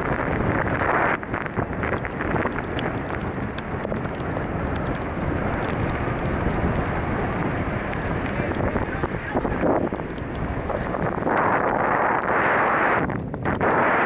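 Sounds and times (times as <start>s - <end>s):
wind buffeting microphone: 0.0s - 14.0s
small ticks: 0.2s - 13.6s.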